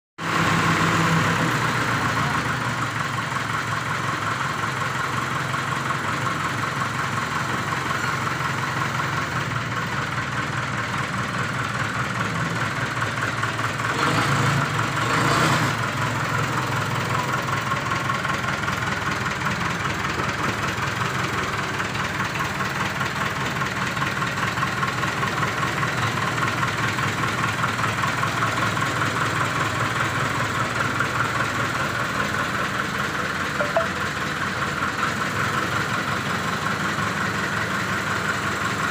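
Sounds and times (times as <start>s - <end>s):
backhoe engine running: 0.2s - 38.9s.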